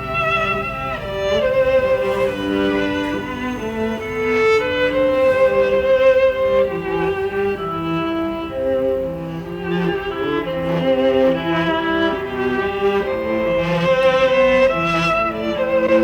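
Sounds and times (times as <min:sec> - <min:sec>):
violin and bowed strings music: 0:00.0 - 0:16.0.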